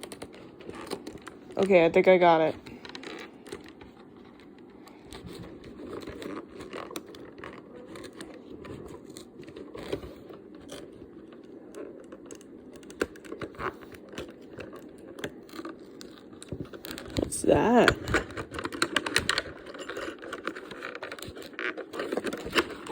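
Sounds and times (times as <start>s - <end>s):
packaging crinkling and tearing: 0.0s - 22.9s.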